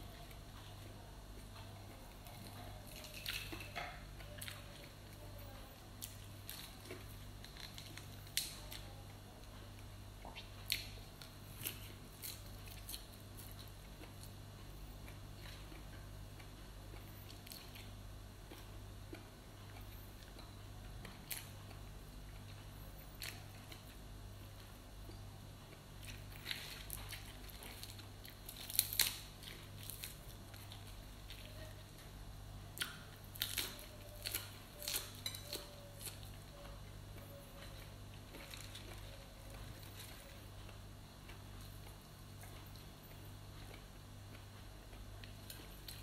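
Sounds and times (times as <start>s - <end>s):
chewing crunchy greens: 0.0s - 46.0s.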